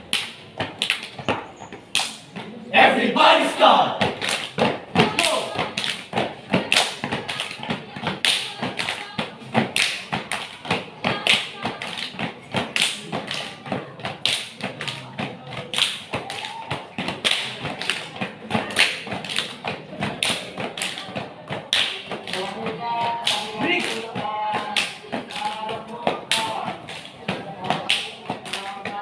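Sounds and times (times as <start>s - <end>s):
hands clapping and slapping: 0.1s - 1.2s, 1.9s - 2.3s, 4.0s - 29.0s.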